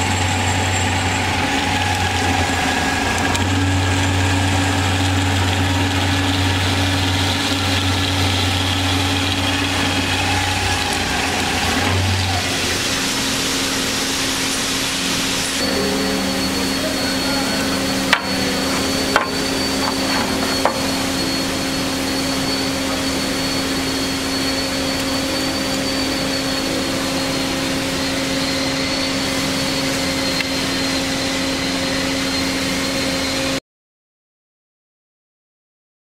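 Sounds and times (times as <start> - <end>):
band saw humming and whining: 0.0 - 33.6.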